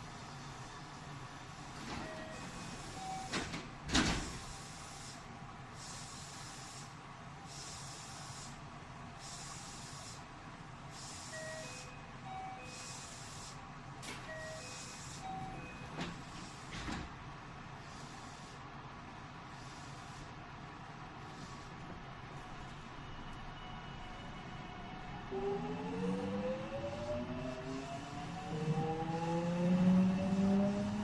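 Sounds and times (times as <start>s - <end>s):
train car hum: 0.0s - 31.0s.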